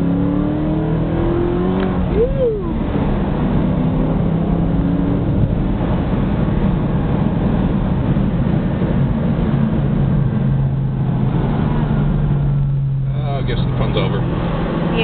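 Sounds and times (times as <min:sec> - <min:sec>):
car engine running: 0:00.0 - 0:15.0
road and tyre noise: 0:00.0 - 0:15.0.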